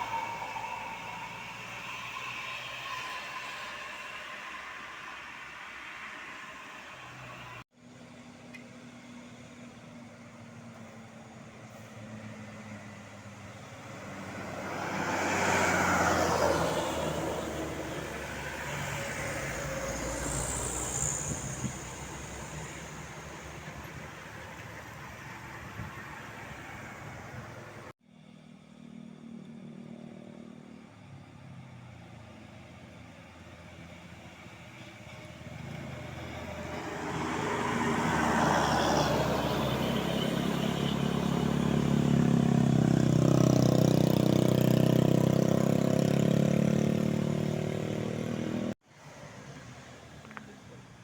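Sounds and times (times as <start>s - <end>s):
bus engine drone: 0.0s - 51.0s
road noise: 0.0s - 51.0s.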